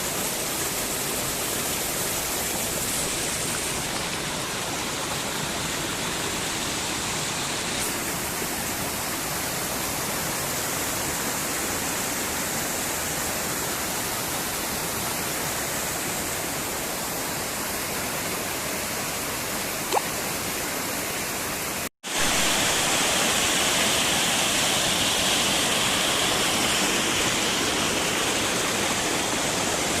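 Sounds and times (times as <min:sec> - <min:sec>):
water rushing down small waterfalls: 0:00.0 - 0:30.0.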